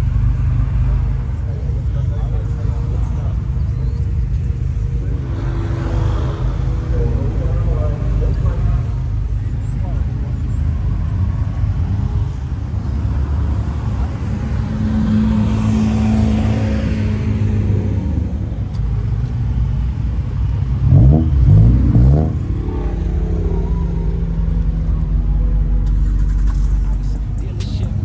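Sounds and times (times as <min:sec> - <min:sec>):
car engines idling: 0:00.0 - 0:28.0.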